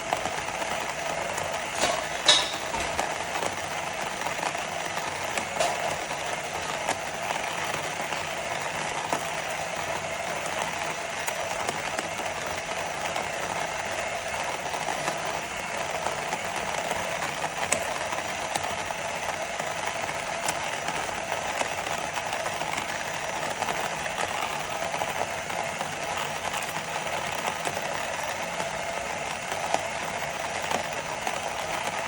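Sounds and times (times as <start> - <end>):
electric coffee grinder running: 0.0 - 32.0.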